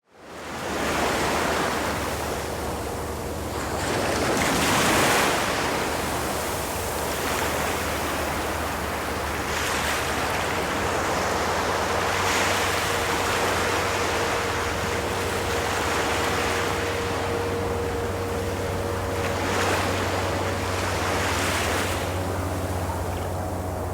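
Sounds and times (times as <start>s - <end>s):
waves breaking on a beach: 0.2s - 23.9s
faint steady hum: 0.4s - 23.9s.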